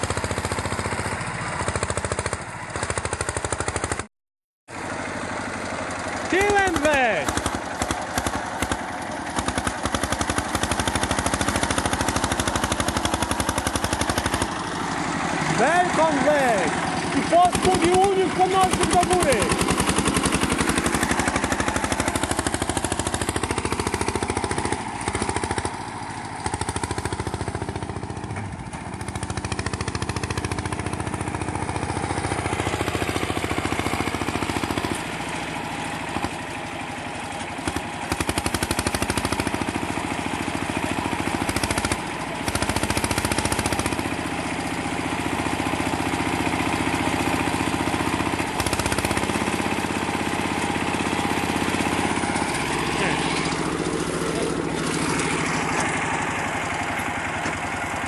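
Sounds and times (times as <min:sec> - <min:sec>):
small engine rattling exhaust: 0:00.0 - 0:04.1, 0:04.7 - 0:58.0.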